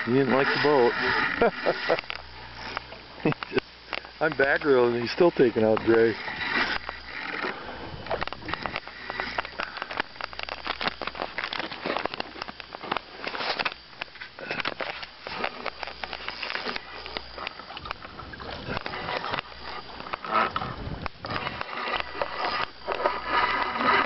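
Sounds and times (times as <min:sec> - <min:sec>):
fishing reel clicking: 0:00.0 - 0:24.0.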